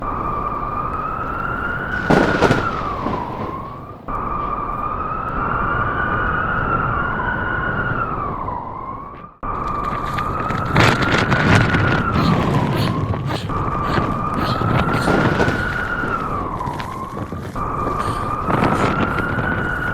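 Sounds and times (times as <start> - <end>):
blizzard wind noise: 0.0 - 19.9.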